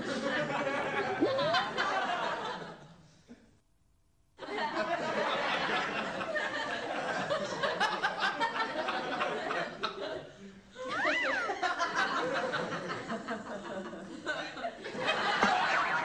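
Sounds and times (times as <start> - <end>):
people laughing and chattering: 0.0 - 2.7, 4.4 - 16.0.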